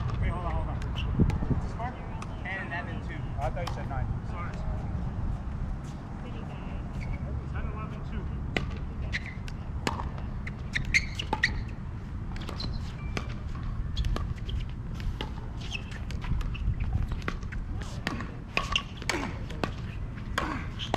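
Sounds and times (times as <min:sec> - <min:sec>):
balls bouncing on hard court: 0:00.0 - 0:04.6, 0:08.5 - 0:20.9.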